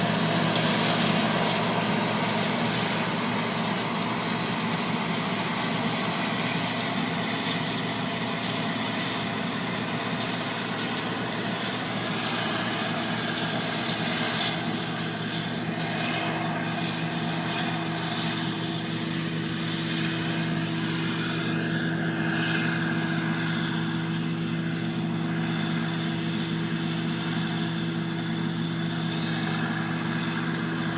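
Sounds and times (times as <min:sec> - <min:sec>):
combine harvester drone: 0:00.0 - 0:30.9.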